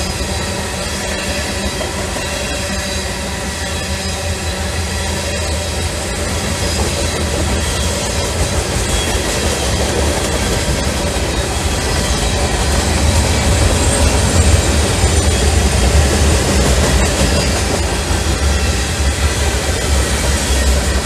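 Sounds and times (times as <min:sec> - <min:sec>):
clickety-clack over rail joints: 0:00.0 - 0:21.0
high wheel squeals: 0:00.0 - 0:21.0
train wheels rumbling on rails: 0:00.0 - 0:21.0.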